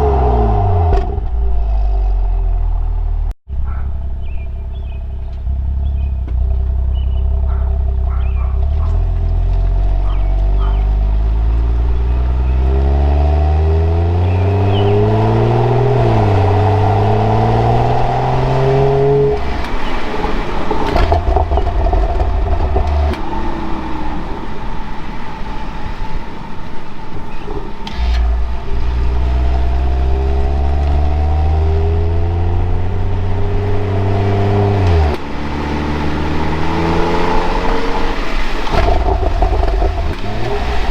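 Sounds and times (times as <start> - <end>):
car engine accelerating: 0.0 - 40.9
exhaust crackling: 0.0 - 40.9.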